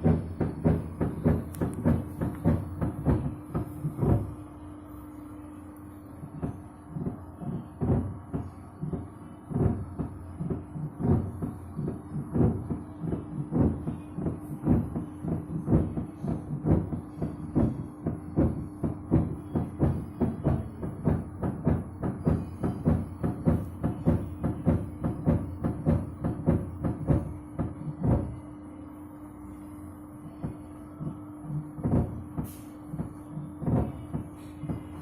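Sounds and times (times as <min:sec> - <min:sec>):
washing machine drum knocking: 0:00.0 - 0:04.4, 0:06.2 - 0:28.4, 0:30.2 - 0:35.0
washing machine motor hum: 0:00.0 - 0:35.0.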